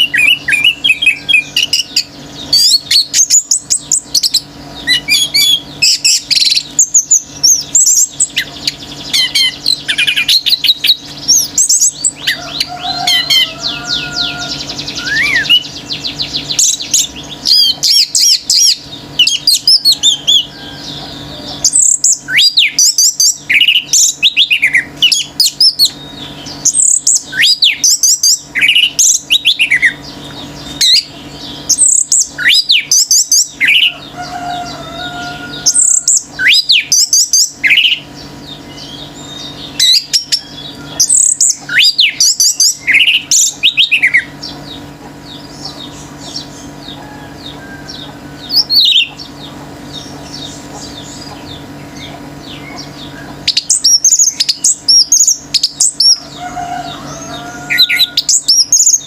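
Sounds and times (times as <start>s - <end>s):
faint steady hum: 0.0s - 59.0s
thrush singing: 0.0s - 59.0s.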